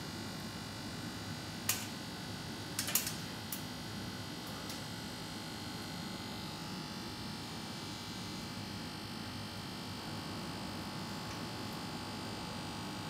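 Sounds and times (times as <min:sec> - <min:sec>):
workroom hum: 0:00.0 - 0:13.0.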